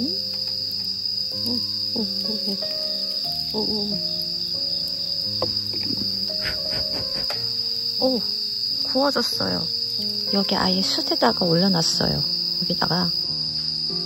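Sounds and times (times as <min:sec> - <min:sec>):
crickets chirring: 0:00.0 - 0:14.0
soft background music: 0:00.0 - 0:14.0.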